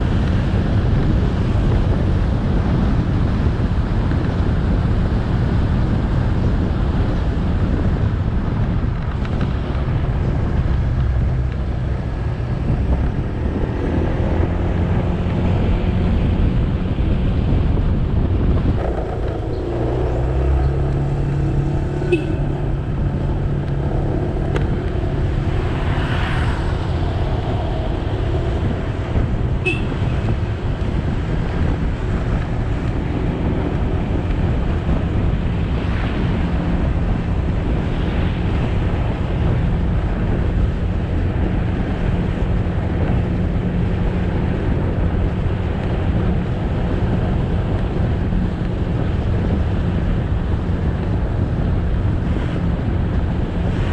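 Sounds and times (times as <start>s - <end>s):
passing traffic: 0.0s - 53.9s
wind and road noise: 0.0s - 53.9s
motorcycle engine running: 0.3s - 53.9s.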